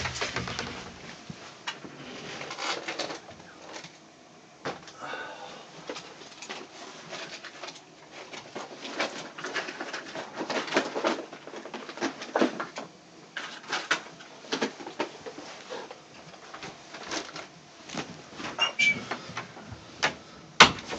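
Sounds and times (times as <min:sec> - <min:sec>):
objects clattering and rattling: 0:00.0 - 0:04.0, 0:05.9 - 0:20.9.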